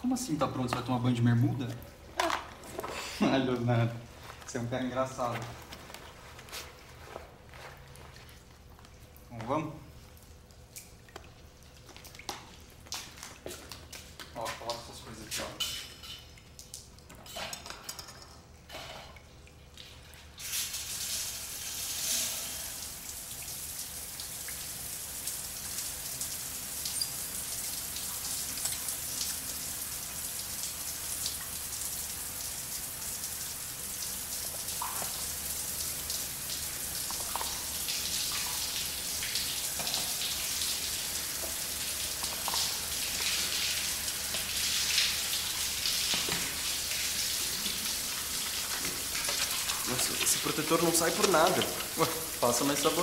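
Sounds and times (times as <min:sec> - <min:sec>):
shower water splashing on tiles: 0:01.6 - 0:53.0.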